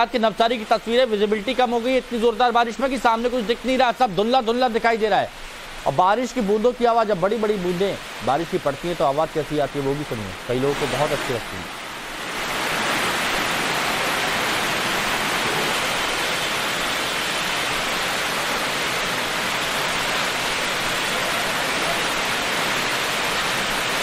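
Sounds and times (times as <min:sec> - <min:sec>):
torrential rain: 0:00.0 - 0:24.0.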